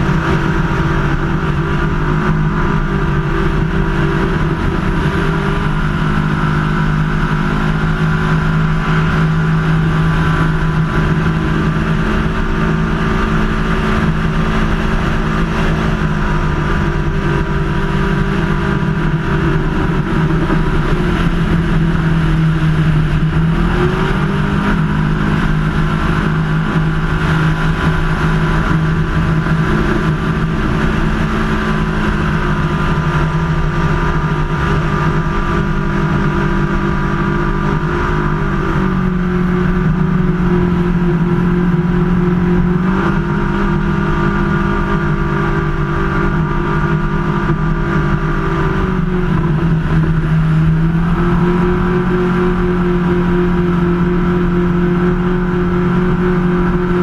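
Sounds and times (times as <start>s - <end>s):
boat engine at full speed: 0.0s - 57.0s
rushing wind and water: 0.0s - 57.0s.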